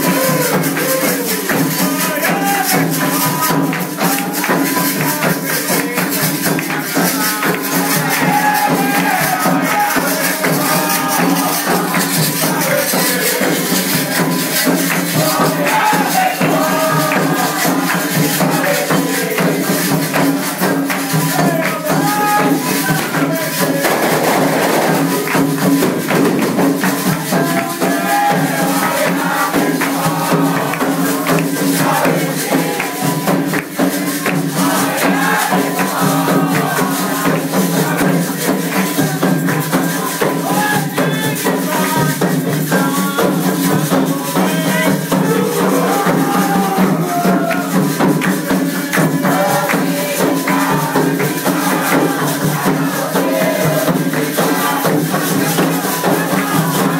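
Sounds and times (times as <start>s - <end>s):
percussion strokes: 0.0s - 56.9s
shaker rattles: 0.0s - 56.9s
voices singing: 0.0s - 56.9s.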